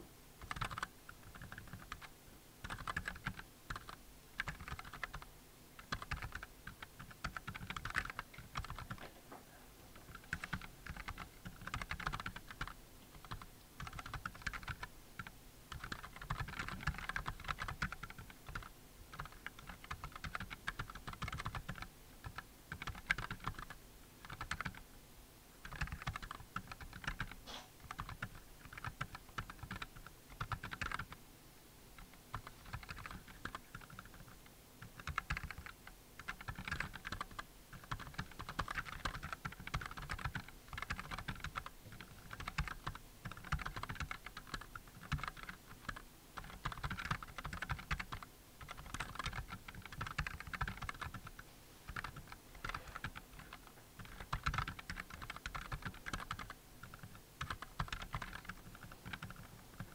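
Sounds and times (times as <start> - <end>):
mechanical keyboard typing: 0.4 - 9.0, 10.0 - 24.8, 25.6 - 31.2, 32.0 - 59.9.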